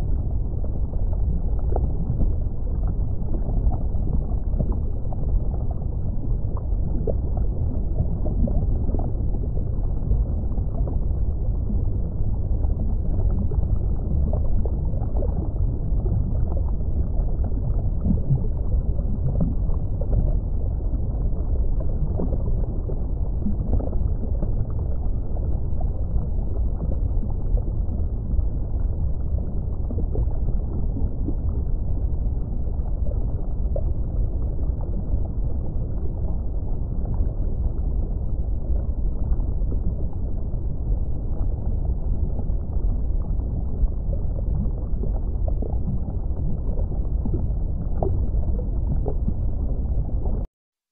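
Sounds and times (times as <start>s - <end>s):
small crackles and gurgles: 0.0s - 50.5s
muffled underwater rumble: 0.0s - 50.9s.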